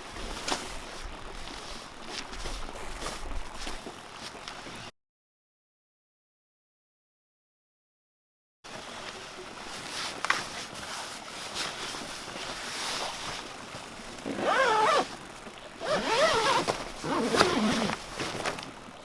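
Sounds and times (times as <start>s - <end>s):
outdoor background noise: 0.0s - 4.9s, 8.7s - 19.0s.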